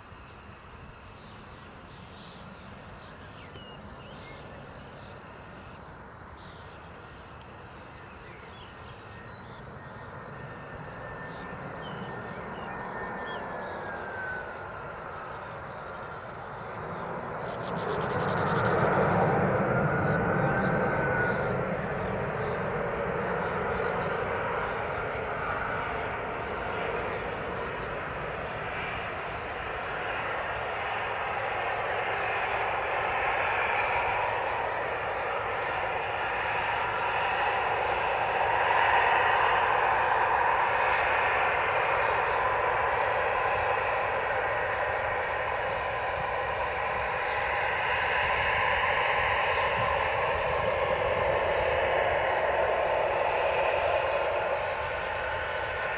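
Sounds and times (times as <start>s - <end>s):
distant jet engines rushing: 0.0s - 55.9s.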